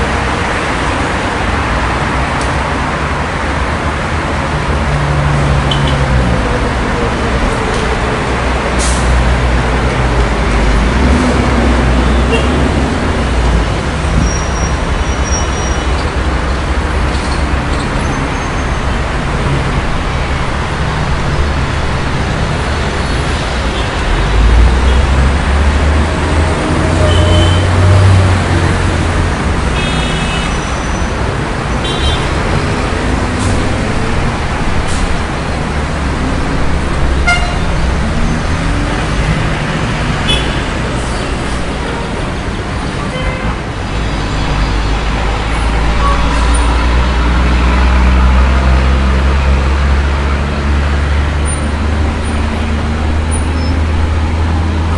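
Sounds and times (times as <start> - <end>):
heavy vehicle engine: 0.0 - 54.9
rumble of passing traffic: 0.0 - 54.9.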